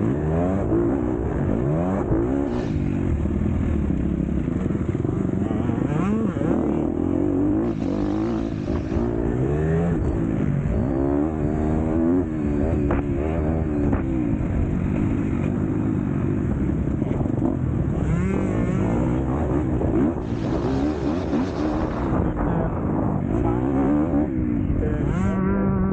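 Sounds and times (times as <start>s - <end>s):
motocross bike engine revving: 0.0s - 25.9s.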